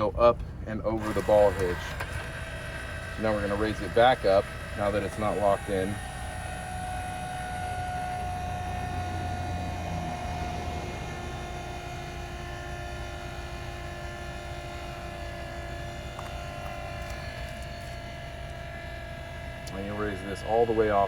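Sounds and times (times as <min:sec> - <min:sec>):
electric jack motor whine: 0:00.9 - 0:21.0.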